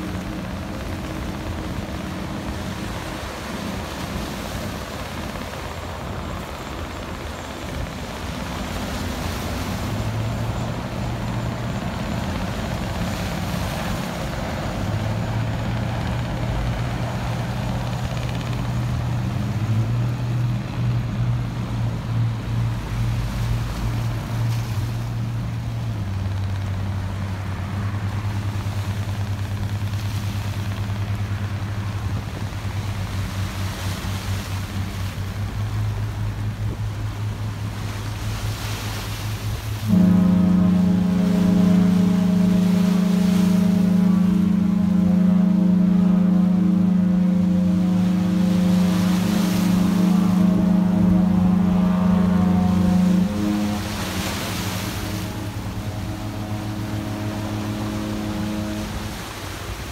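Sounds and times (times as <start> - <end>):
ship engine drone: 0.0 - 59.9.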